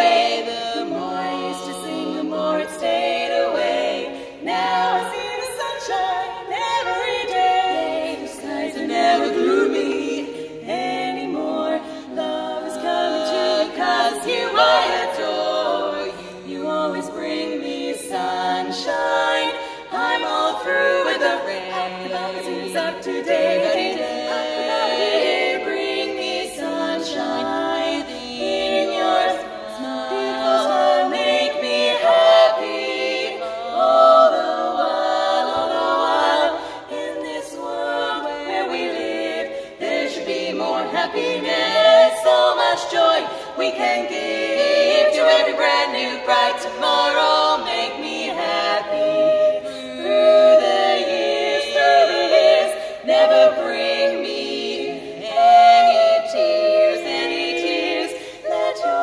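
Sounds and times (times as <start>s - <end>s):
women singing in harmony: 0.0s - 59.0s.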